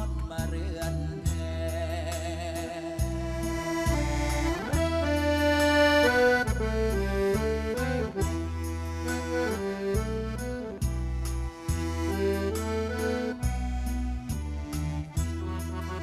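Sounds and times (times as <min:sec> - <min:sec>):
accordion-like lead melody: 0:00.0 - 0:16.0
bass line: 0:00.0 - 0:16.0.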